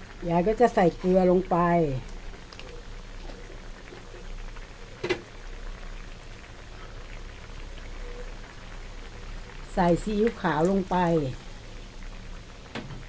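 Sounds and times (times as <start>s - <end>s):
curry simmering and bubbling: 0.0s - 13.0s.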